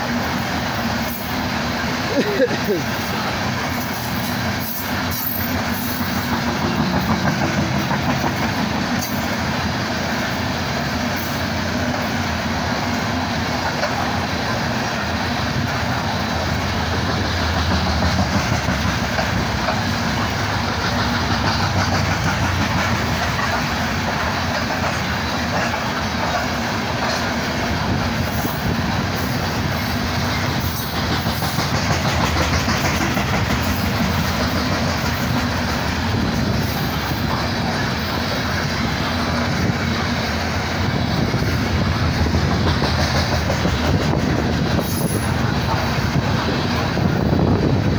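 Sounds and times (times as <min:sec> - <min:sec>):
freight train wheels rumbling on rails: 0:00.0 - 0:47.9.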